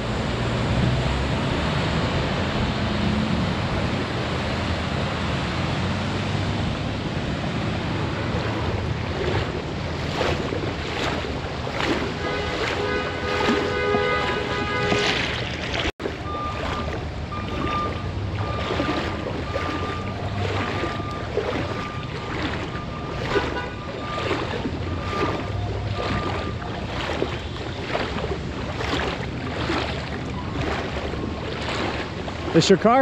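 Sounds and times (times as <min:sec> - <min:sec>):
wading through water: 0:00.3 - 0:33.0.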